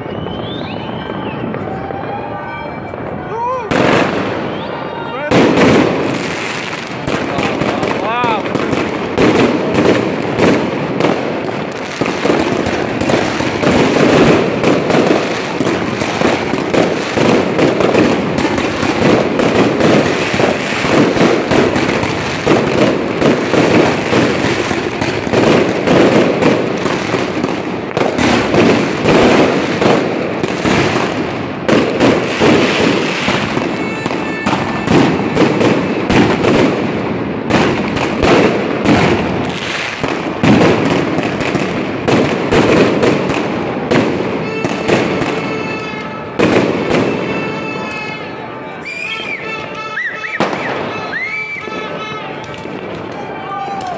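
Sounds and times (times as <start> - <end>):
fireworks banging and crackling: 0.0 - 53.9.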